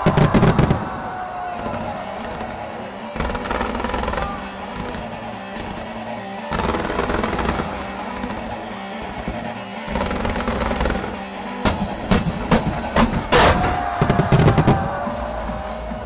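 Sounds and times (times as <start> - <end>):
fireworks bursting and crackling: 0.0 - 15.5.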